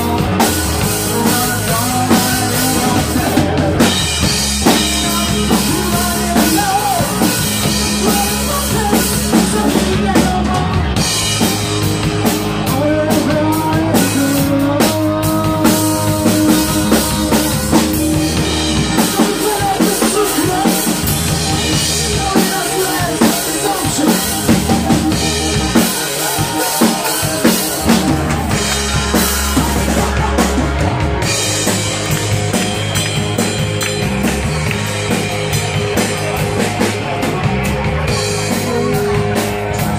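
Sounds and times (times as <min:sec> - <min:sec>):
drum kit beating: 0:00.0 - 0:39.9
electric guitar: 0:00.0 - 0:39.9
live rock band playing: 0:00.0 - 0:39.9.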